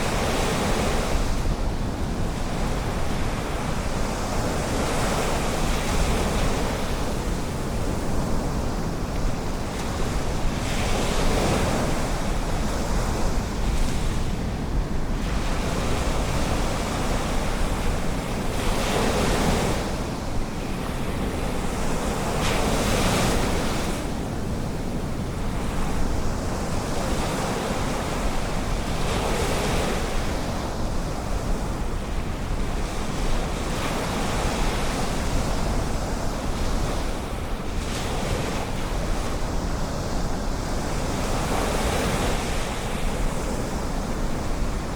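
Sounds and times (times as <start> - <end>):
waves breaking on beach: 0.0 - 44.9
wind rumble on microphone: 0.0 - 44.9.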